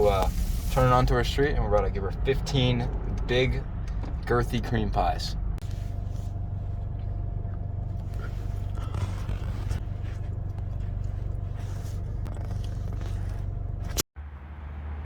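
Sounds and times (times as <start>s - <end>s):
car driving rumble inside cabin: 0.0s - 15.0s.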